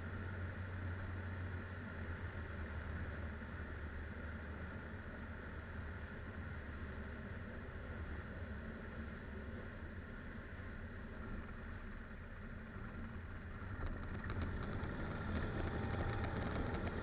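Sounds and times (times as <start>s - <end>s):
ultralight engine and propeller droning: 0.0s - 17.0s.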